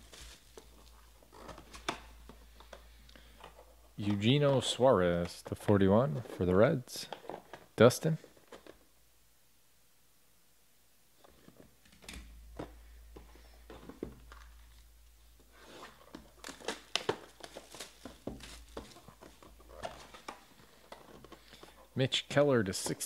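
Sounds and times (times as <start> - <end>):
plastic wrap crackling: 0.0 - 8.9, 11.2 - 22.0.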